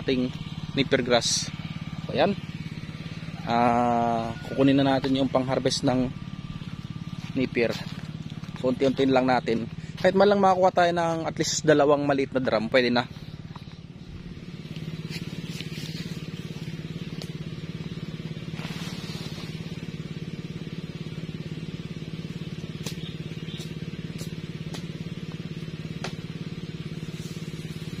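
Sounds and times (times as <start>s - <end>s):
small engine droning: 0.0s - 28.0s.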